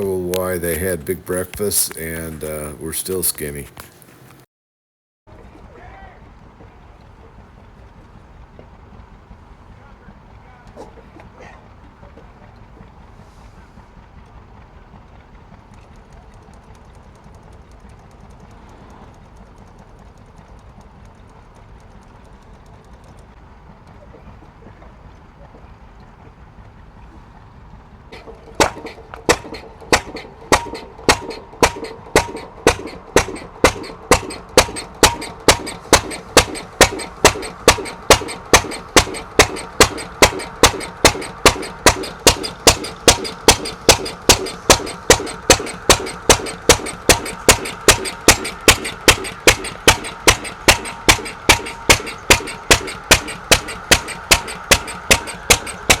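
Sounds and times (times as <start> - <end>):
engine exhaust bangs: 0.0 - 4.2, 5.3 - 56.0.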